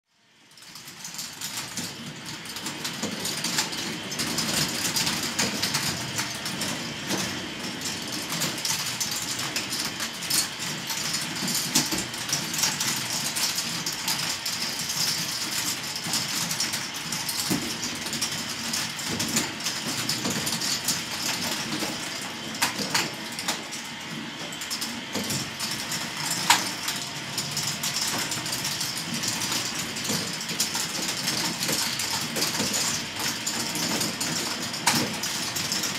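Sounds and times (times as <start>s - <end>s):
motor-driven lifts clattering: 0.6s - 35.9s.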